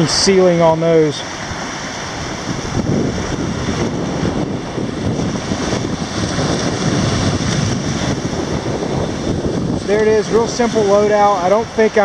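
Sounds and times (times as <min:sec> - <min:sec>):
small waves washing onto beach: 0:00.0 - 0:12.0
wind buffeting microphone: 0:00.0 - 0:12.0.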